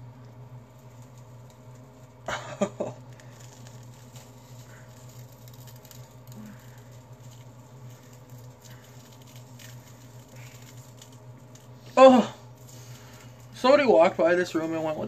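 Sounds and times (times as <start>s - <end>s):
crackling of peel-off mask: 0.0s - 15.0s
steady low hum: 0.0s - 15.0s.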